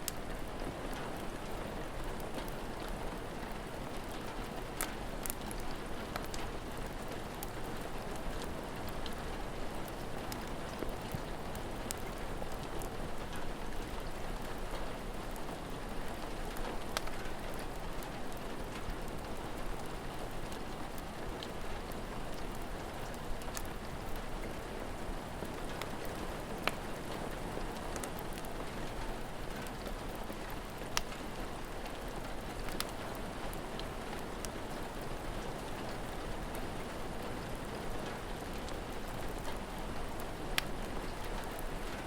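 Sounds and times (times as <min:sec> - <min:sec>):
steady rain falling: 0:00.0 - 0:42.0
wood fire crackles: 0:00.0 - 0:42.0.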